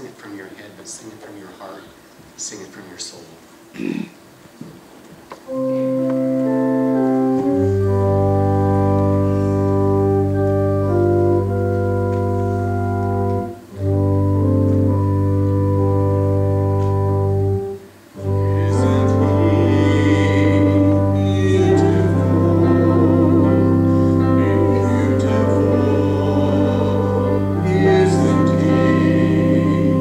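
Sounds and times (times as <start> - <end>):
organ playing hymn chords: 5.4 - 30.0
deep bass organ note: 5.5 - 30.0.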